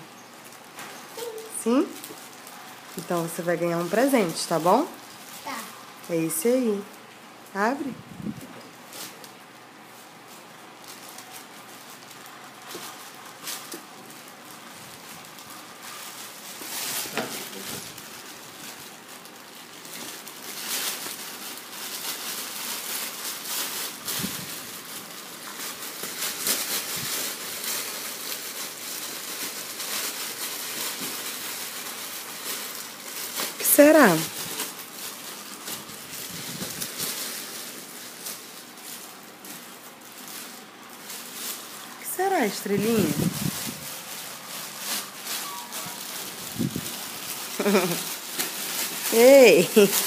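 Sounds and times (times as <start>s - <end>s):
plastic bag crinkling: 0.0s - 50.0s.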